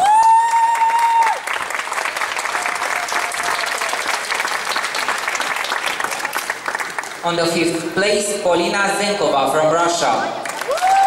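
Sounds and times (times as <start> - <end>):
people applauding: 0.0 - 8.0, 10.1 - 11.0.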